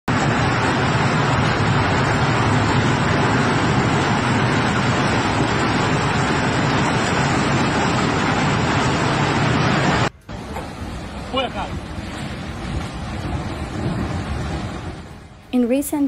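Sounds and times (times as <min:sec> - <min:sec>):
tornado winds rushing: 0:00.0 - 0:16.0.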